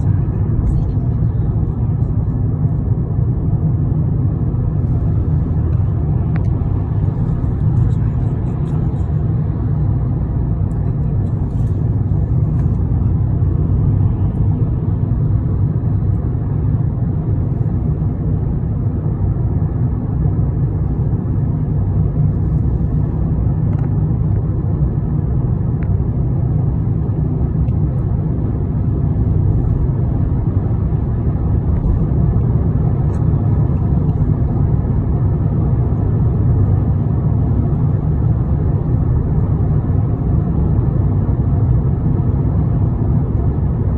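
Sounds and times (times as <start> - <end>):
road vehicle rumble: 0.0 - 43.9.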